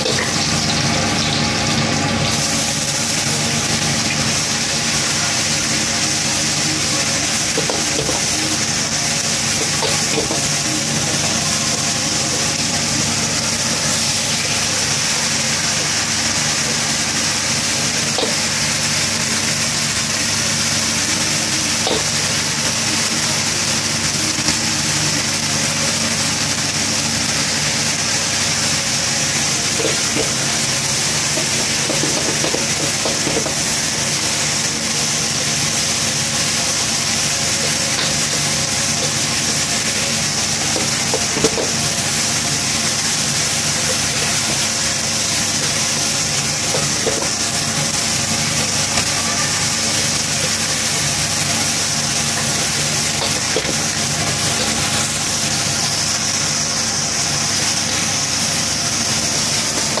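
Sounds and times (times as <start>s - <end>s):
gas burner low hum: 0.0s - 60.0s
greens sizzling in hot oil: 0.0s - 60.0s.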